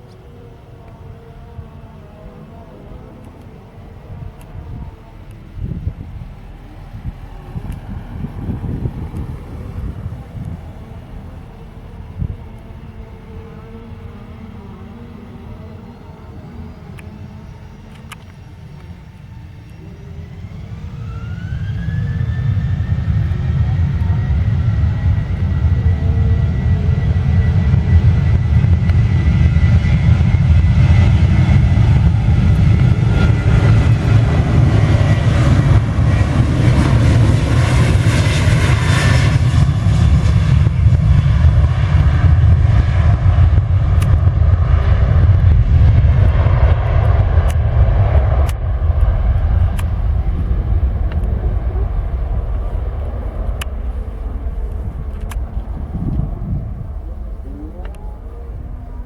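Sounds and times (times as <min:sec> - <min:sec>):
airliner engines passing by: 0:00.0 - 0:59.0.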